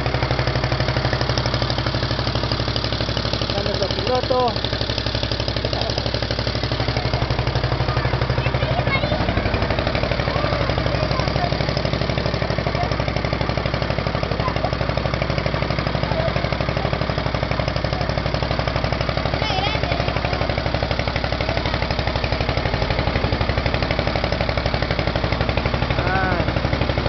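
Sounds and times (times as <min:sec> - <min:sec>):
motorboat engine chugging: 0:00.0 - 0:27.0.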